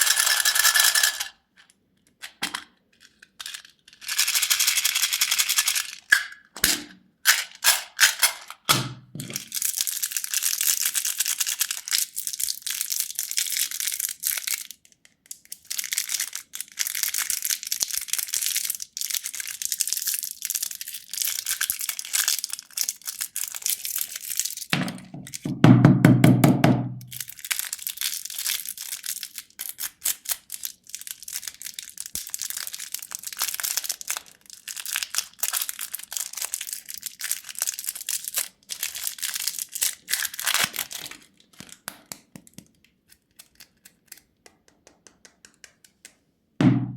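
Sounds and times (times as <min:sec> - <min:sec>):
plastic wrappers crinkling: 0:02.1 - 0:06.6, 0:07.3 - 0:25.5, 0:27.1 - 0:44.4.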